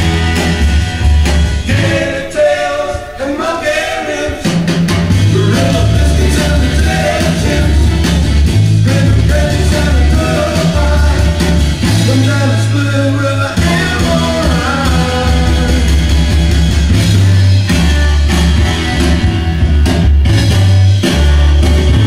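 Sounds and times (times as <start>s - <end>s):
rock and roll record playing: 0.0s - 22.0s.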